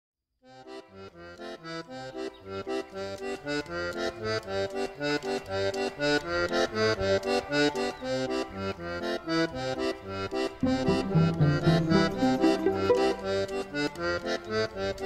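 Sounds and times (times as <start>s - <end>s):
button accordion playing a tune: 0.5s - 15.0s.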